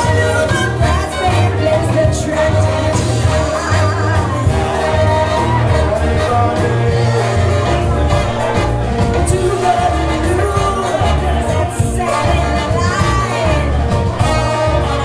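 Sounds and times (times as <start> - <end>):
brass band playing: 0.0 - 15.0
pulsing bass line: 0.0 - 15.0
voices singing: 0.0 - 15.0.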